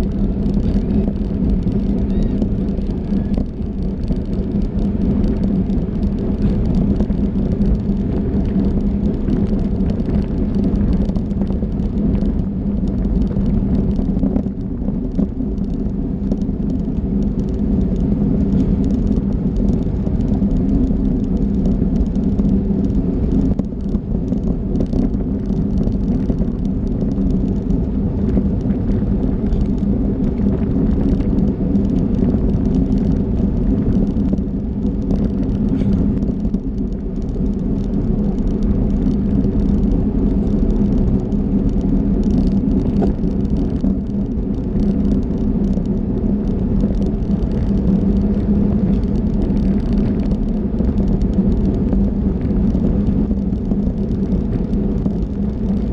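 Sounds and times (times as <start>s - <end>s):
bicycle tyres rumbling on asphalt: 0.0s - 55.9s
constant low hum: 0.0s - 55.9s
wind rush: 0.0s - 55.9s.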